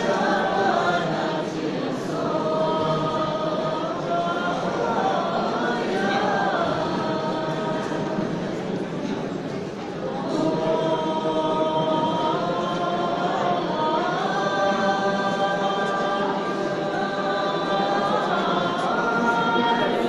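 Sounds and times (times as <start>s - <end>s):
choir singing long notes: 0.0s - 20.0s.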